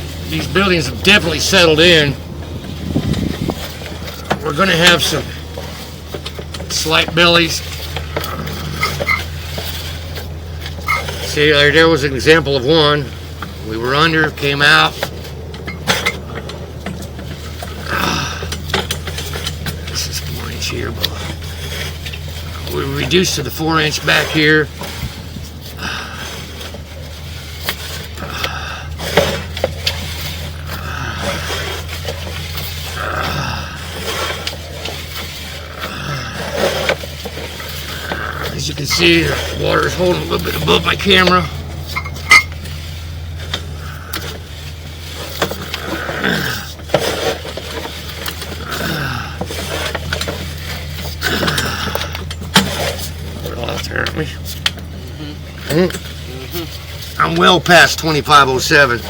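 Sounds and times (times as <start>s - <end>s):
low machine hum: 0.0s - 59.0s
metallic clinks and scraping: 0.0s - 59.0s.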